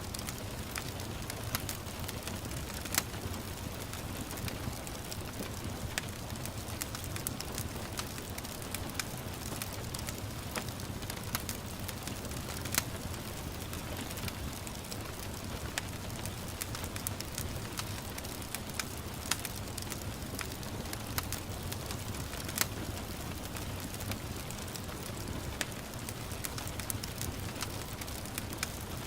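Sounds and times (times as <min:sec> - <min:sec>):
gentle rain hiss: 0:00.0 - 0:29.0
wood fire crackling: 0:00.0 - 0:29.0.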